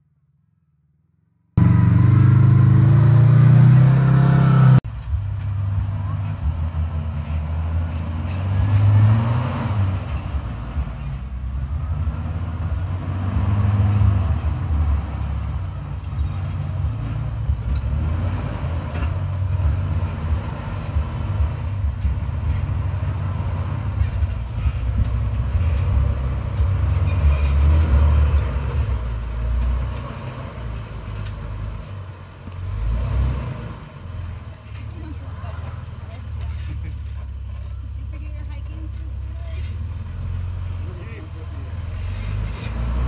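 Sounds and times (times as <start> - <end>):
off-road vehicle engine rumbling: 1.6 - 43.0.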